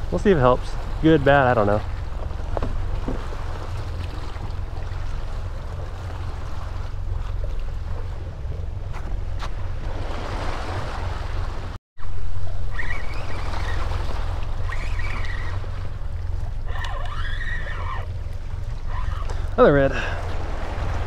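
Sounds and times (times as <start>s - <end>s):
water lapping around boat: 0.0s - 21.0s
wind rumbling on microphone: 0.0s - 21.0s.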